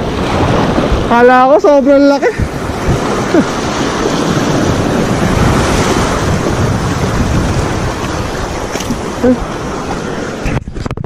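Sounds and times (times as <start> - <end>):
waves washing on shore: 0.0 - 11.0
wind buffeting microphone: 0.0 - 11.0.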